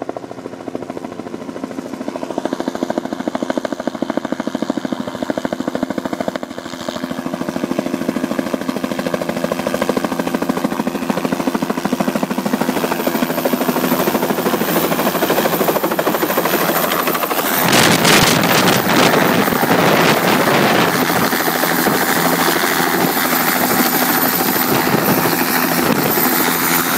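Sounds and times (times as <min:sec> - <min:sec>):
helicopter rotor blade chop: 0:00.0 - 0:26.9.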